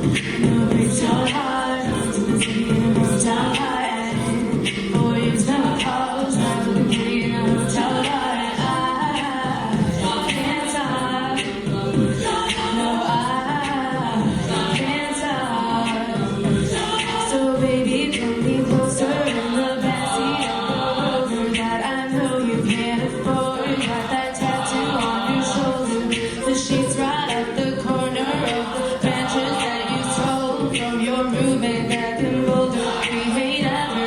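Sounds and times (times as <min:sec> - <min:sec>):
vocal group singing in harmony: 0:00.0 - 0:34.0.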